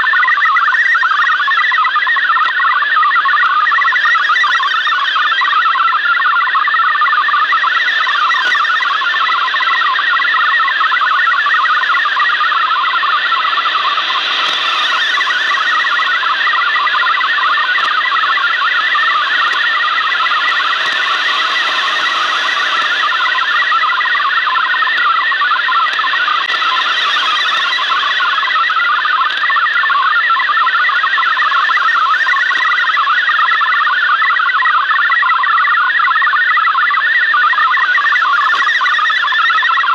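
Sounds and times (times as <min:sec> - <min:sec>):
shortwave radio hiss: 0:00.0 - 0:39.9
warbling digital data tones: 0:00.0 - 0:39.9.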